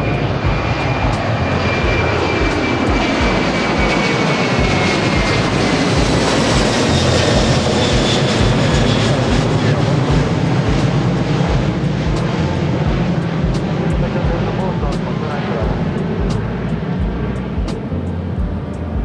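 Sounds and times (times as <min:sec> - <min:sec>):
jet engines running: 0:00.0 - 0:19.0
thin whine falling in pitch: 0:00.0 - 0:19.0.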